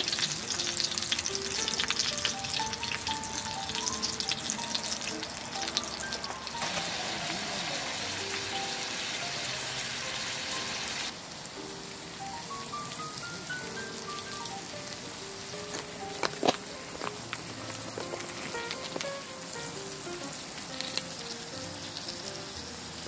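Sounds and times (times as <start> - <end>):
food sizzling in a hot pan: 0.0 - 23.0
light background music: 0.0 - 23.0.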